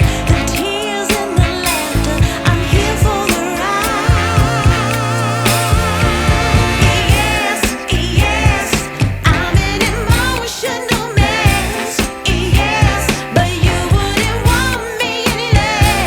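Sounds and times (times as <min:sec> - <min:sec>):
song with singing over a beat: 0:00.0 - 0:16.0.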